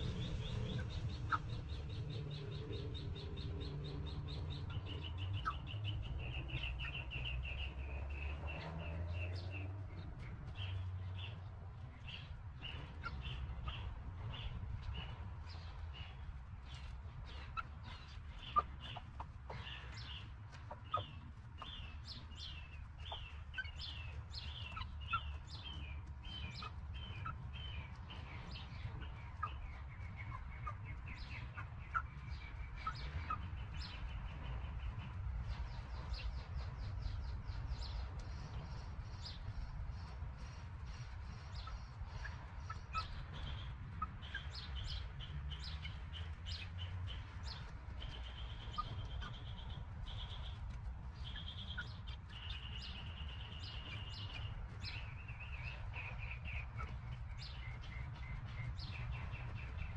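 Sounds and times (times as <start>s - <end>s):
hen clucking: 0.0s - 7.4s, 12.0s - 36.2s, 40.9s - 59.7s
chicks peeping: 0.0s - 59.9s.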